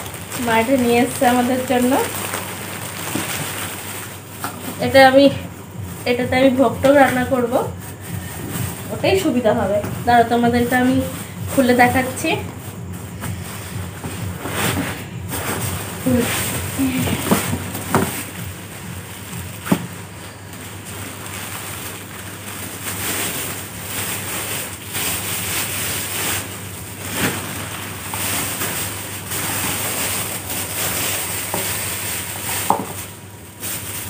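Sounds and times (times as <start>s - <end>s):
plastic wrapping crinkling: 0.0s - 34.0s.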